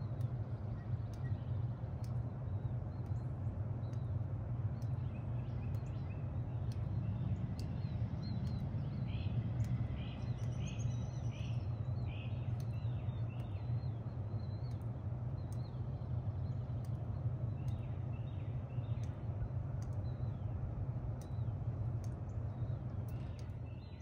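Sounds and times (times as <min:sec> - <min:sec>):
birds chirping: 0:00.0 - 0:24.0
heat pump humming: 0:00.0 - 0:24.0.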